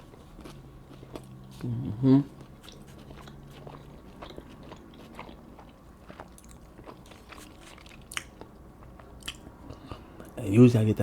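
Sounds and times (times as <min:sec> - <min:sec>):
chewing sandwich: 0:00.0 - 0:10.4.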